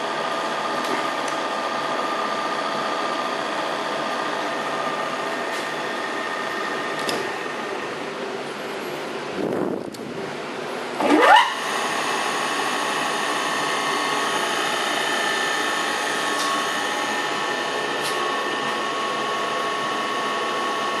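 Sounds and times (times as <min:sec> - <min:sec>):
drill press motor whine: 0:00.0 - 0:21.0.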